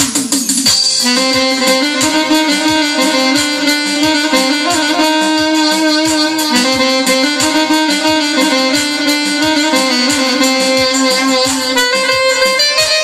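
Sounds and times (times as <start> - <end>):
keyboard drum accompaniment: 0.0 - 13.0
steady kick drum: 0.0 - 13.0
violin-like keyboard melody: 1.0 - 13.0.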